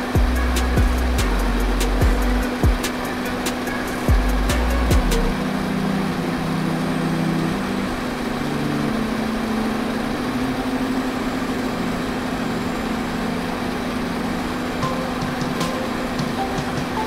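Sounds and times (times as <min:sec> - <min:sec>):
constant hiss: 0:00.0 - 0:17.0
low sustained tones: 0:00.0 - 0:17.0
machine-like drone: 0:00.0 - 0:17.0.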